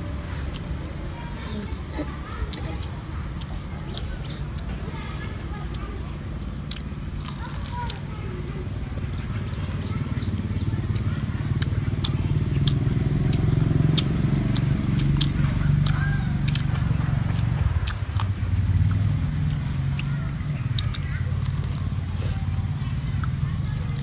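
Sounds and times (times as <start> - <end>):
low engine hum: 0.0 - 24.0
people chewing cake: 0.0 - 24.0.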